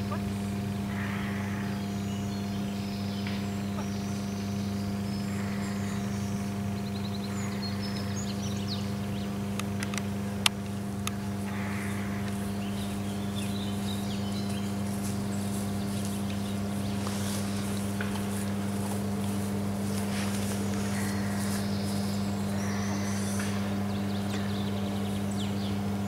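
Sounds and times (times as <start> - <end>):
small birds chirping: 0.0 - 26.0
transformer electrical hum: 0.0 - 26.0.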